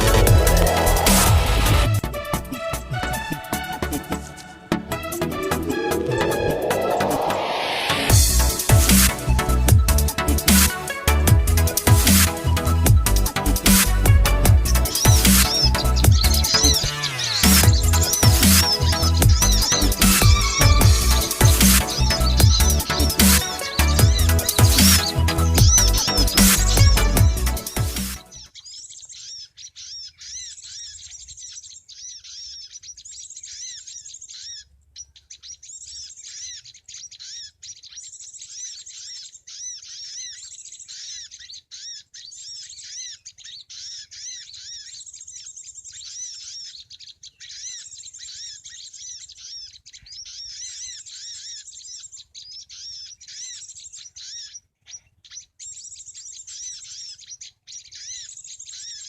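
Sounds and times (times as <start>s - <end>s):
birds chirping rapidly: 0.0s - 59.0s.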